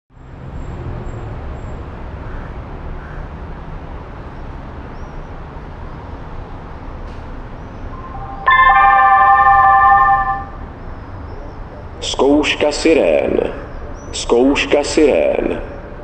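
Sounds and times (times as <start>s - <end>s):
distant road traffic rumble: 0.2s - 16.0s.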